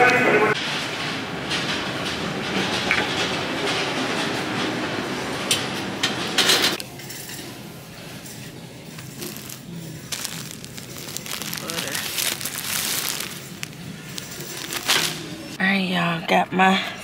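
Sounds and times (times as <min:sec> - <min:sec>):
shopping cart rolling and rattling: 0:00.6 - 0:07.5, 0:08.2 - 0:15.6.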